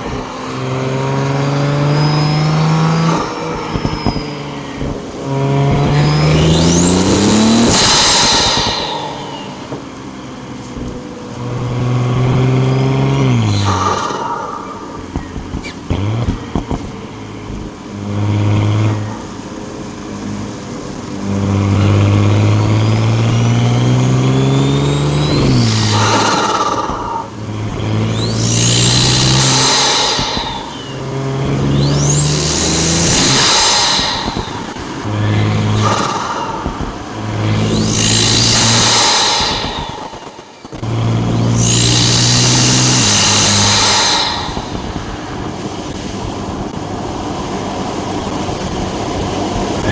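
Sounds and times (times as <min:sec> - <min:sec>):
turbo whooshing bursts: 0:00.0 - 0:16.9, 0:21.3 - 0:46.8
turbo whistles: 0:00.0 - 0:17.8, 0:20.8 - 0:46.8
car engine revving: 0:00.0 - 0:49.9
exhaust pops: 0:00.0 - 0:49.9.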